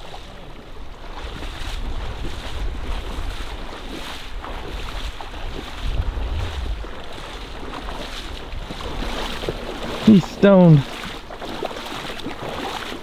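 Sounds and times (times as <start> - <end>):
legs splashing through water: 0.0 - 13.0
wind rumbling on microphone: 0.0 - 13.0.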